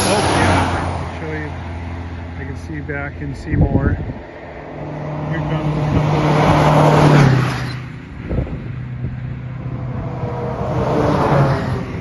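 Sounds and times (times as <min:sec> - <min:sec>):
vehicle passing on freeway: 0:00.0 - 0:12.0.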